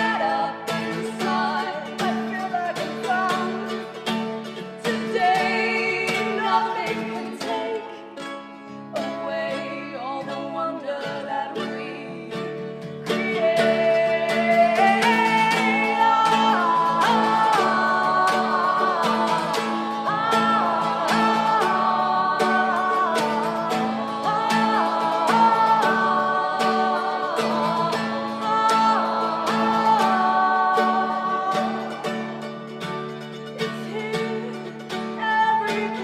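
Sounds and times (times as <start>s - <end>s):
acoustic guitar strumming: 0.0s - 36.0s
wordless vocal harmonies: 0.0s - 36.0s.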